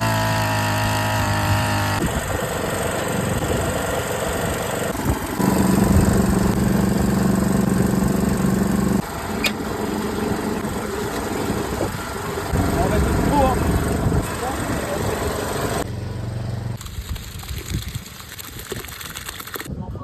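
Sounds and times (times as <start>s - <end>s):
machine motor running: 0.0s - 16.9s.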